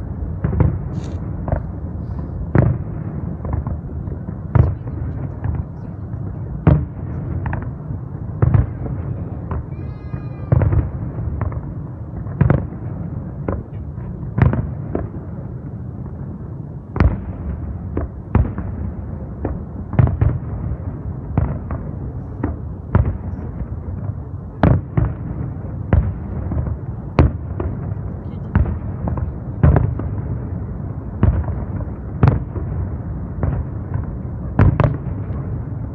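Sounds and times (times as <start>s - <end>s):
distant fireworks rumble: 0.0s - 35.9s.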